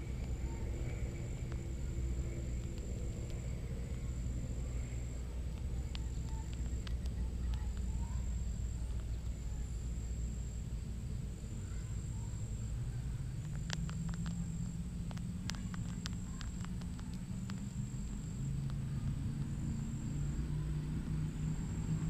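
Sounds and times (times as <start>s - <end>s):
sharp clicks: 0.1s - 10.2s, 12.3s - 20.5s.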